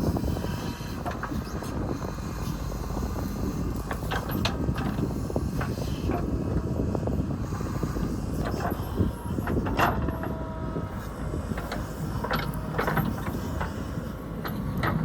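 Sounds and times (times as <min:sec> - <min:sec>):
heavy machine engine rumble: 0:00.0 - 0:15.0.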